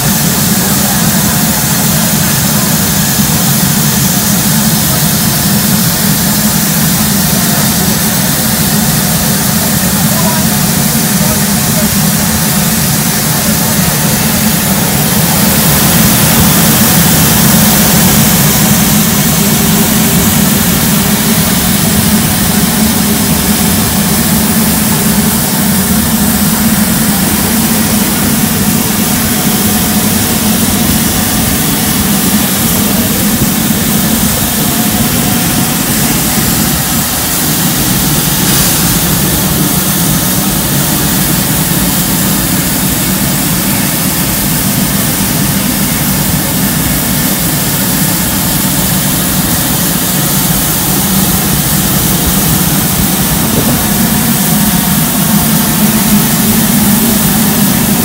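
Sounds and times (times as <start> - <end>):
steam hissing from locomotive: 0.0 - 58.0.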